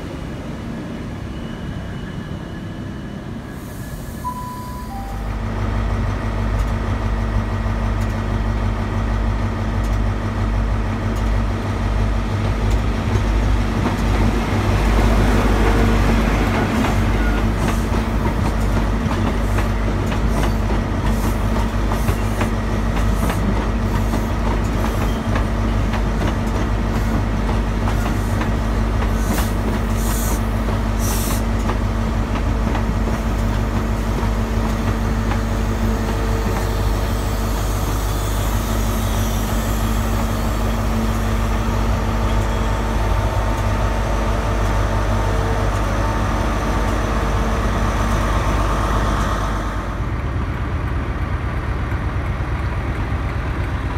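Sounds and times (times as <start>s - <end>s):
diesel train engine humming: 0.0s - 53.9s.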